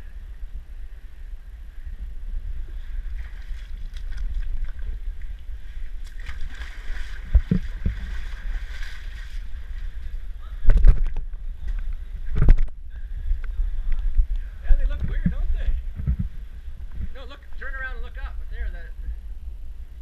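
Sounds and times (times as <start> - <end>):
faint water: 0.0 - 20.0
wind rumble on microphone: 0.0 - 20.0.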